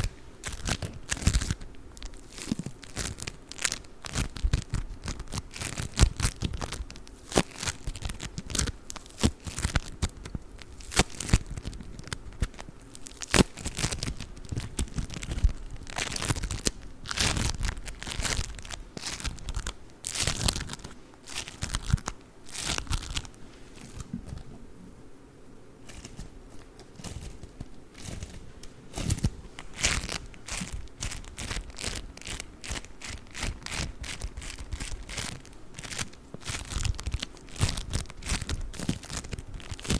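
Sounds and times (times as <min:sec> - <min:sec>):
bead foam crackling and crunching: 0:00.0 - 0:24.0, 0:25.9 - 0:39.9.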